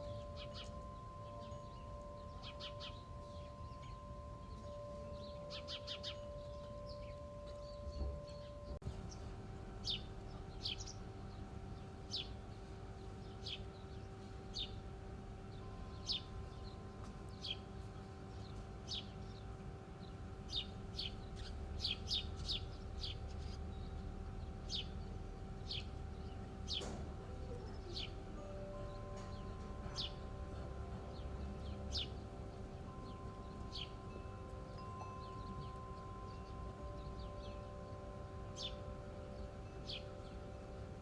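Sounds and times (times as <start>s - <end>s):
bird chirping: 0.0s - 41.0s
steady low hum: 0.0s - 41.0s.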